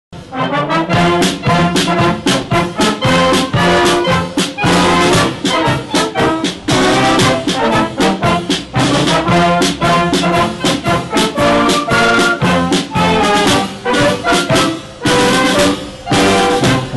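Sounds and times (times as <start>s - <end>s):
brass band music: 0.2s - 16.9s.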